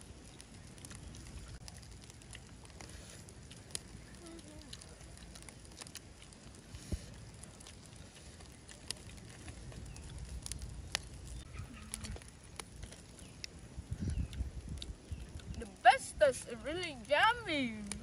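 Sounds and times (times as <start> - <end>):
chewing: 0.7 - 15.8.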